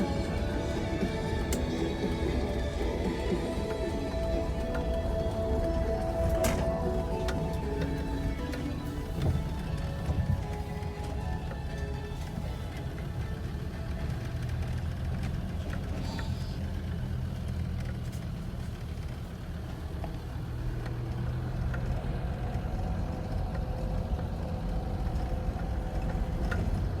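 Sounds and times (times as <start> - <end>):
tractor engine droning: 0.0 - 27.0.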